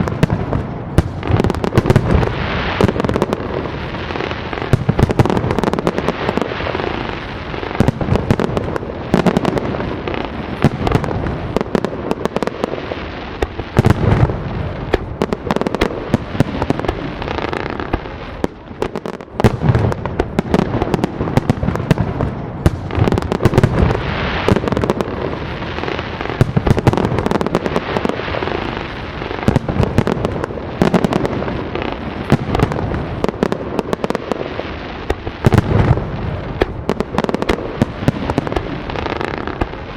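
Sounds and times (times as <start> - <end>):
deep firework booms: 0.0 - 39.9
fireworks banging and crackling: 0.0 - 39.9.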